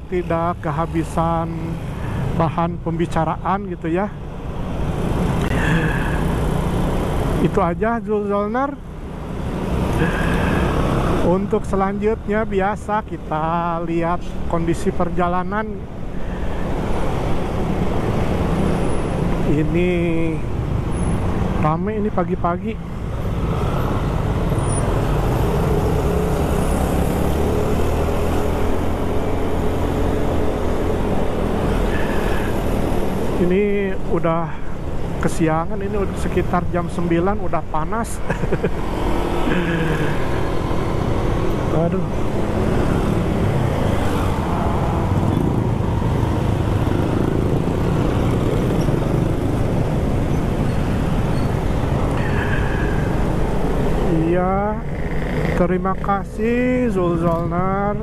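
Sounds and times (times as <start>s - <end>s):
road and wind rumble: 0.0s - 58.0s
traffic: 0.0s - 58.0s.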